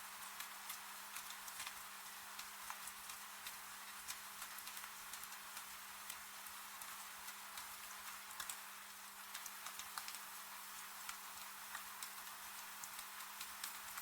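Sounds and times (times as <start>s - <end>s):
steady rain-like hiss: 0.0s - 14.0s
wood fire crackling and popping: 0.3s - 14.0s.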